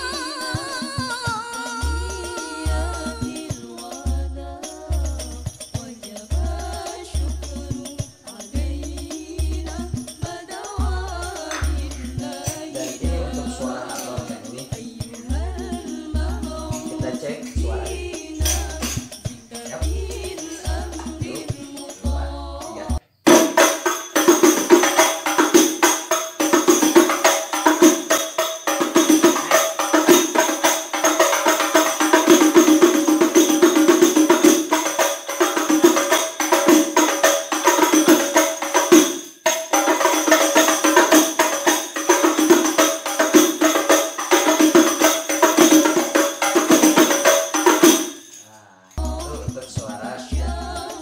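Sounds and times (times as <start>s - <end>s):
frame drums with jingles: 0.0s - 51.0s.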